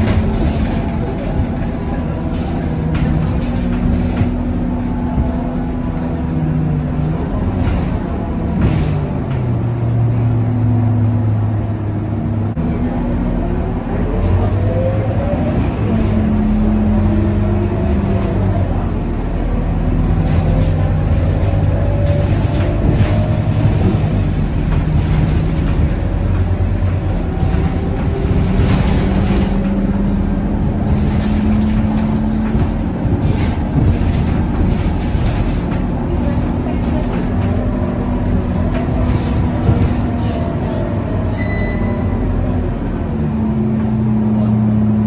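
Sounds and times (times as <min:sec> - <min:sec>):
bus diesel engine running: 0:00.0 - 0:45.0
road and body rumble: 0:00.0 - 0:45.0.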